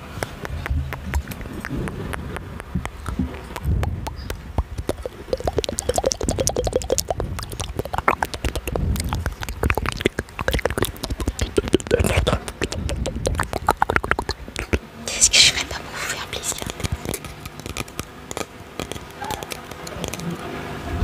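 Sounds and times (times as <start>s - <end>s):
short popping mouth sounds: 0.0s - 20.4s
wet mouth clicks and smacks: 0.0s - 20.4s.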